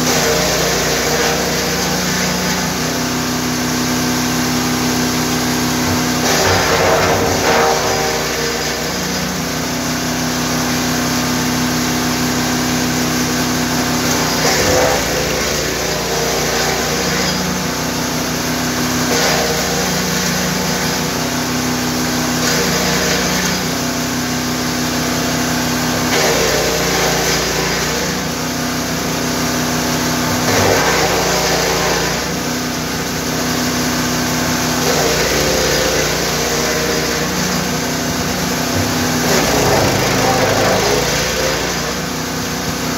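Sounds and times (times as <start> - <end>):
wood chipper engine running: 0.0 - 42.9.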